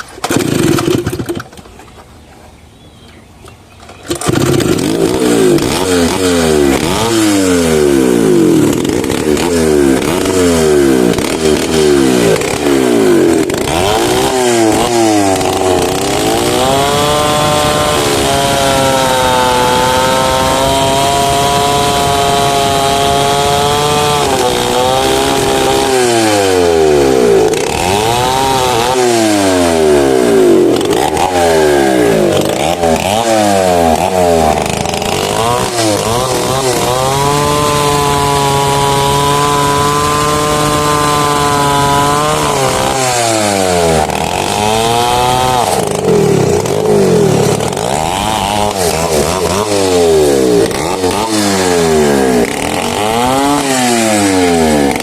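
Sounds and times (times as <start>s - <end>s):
chainsaw cutting wood: 0.0s - 2.0s, 3.8s - 55.0s.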